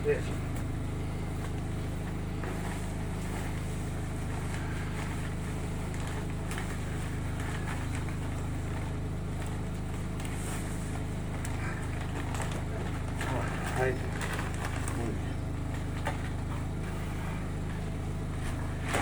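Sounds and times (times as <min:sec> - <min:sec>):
engine running with low hum: 0:00.0 - 0:19.0.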